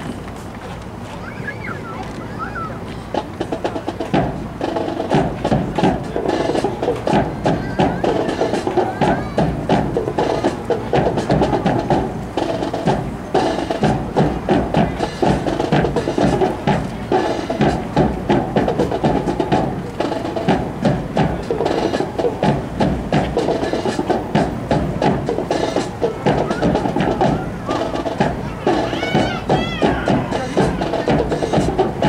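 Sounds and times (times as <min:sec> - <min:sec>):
marching drums playing cadence: 0:01.3 - 0:32.0.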